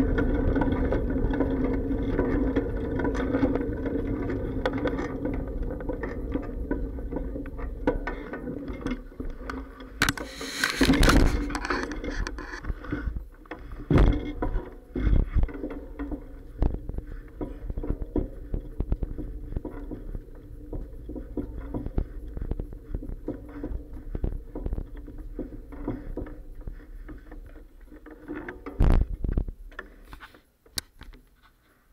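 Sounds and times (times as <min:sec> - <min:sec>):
bicycle clacks and bumps: 0:00.0 - 0:31.4.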